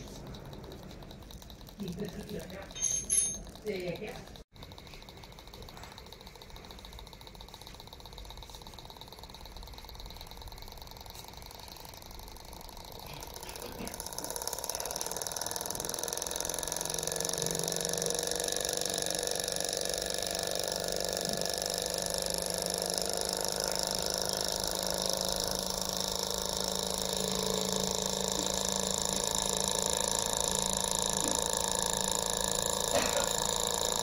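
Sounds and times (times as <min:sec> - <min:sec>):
miniature stirling engine running: 0:00.0 - 0:34.0.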